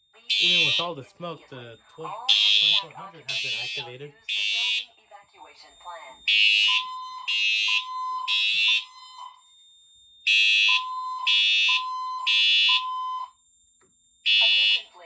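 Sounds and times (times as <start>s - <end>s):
buzzy fire alarm horn blasts: 0.0s - 5.0s, 5.8s - 9.5s, 10.2s - 15.0s
lower steady alarm tone: 0.0s - 15.0s.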